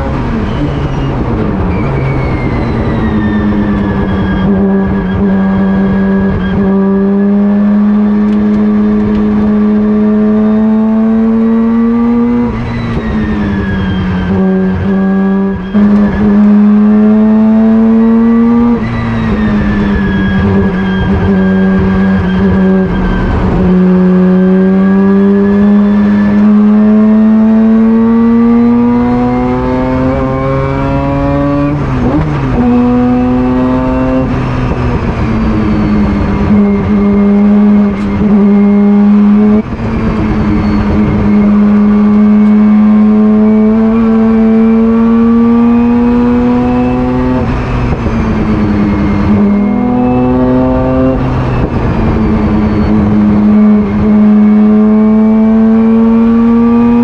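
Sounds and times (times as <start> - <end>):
race car rotary engine revving: 0.0 - 57.0.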